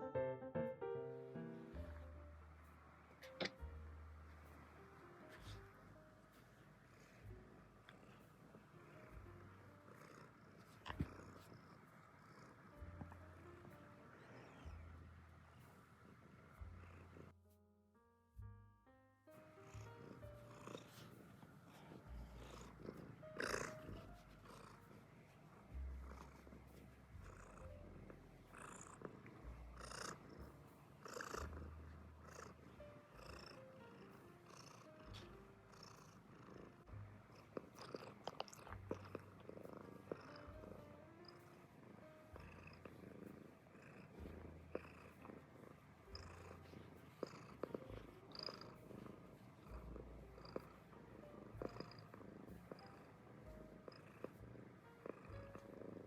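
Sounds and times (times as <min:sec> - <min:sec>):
cat purring: 0:01.1 - 0:17.5, 0:19.4 - 0:56.0.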